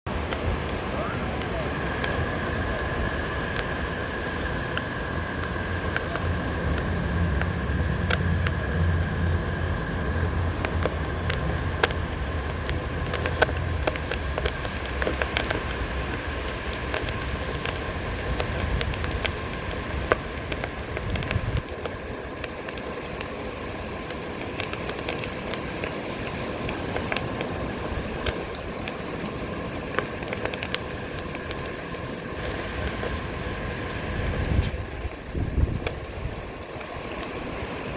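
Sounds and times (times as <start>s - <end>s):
surf washing: 0.1s - 37.9s
wind buffeting microphone: 0.1s - 37.9s.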